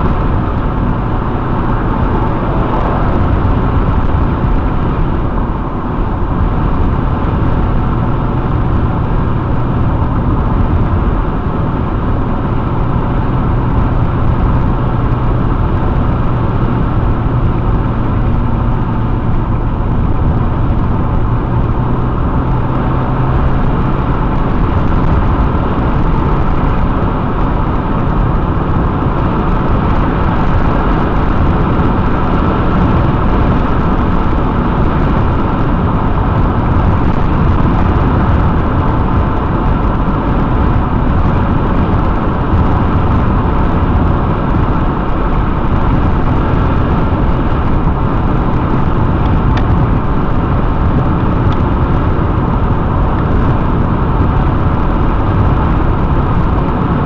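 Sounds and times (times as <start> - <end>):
road and engine noise in car: 0.0 - 57.0.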